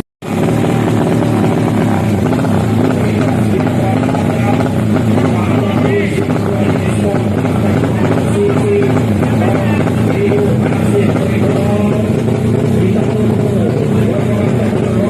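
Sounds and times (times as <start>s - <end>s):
motorcycle engines revving: 0.2s - 15.0s.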